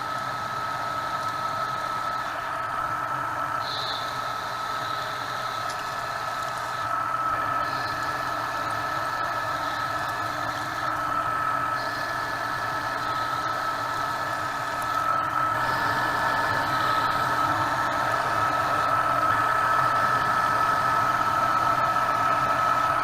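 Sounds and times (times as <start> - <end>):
constant high tone: 0.0 - 23.0
metal lathe running: 0.0 - 23.0.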